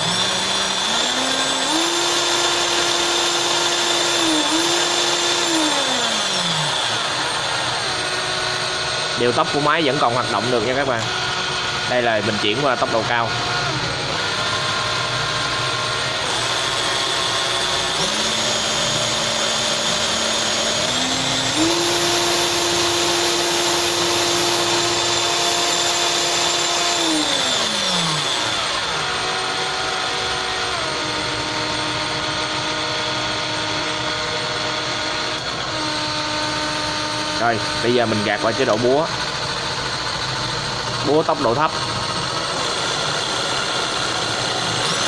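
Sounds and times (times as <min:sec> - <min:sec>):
cordless drill motor whine: 0:00.0 - 0:45.0.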